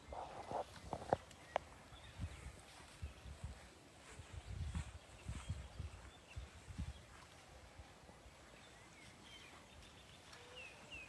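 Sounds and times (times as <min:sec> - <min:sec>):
rustling through grass: 0:00.0 - 0:11.0.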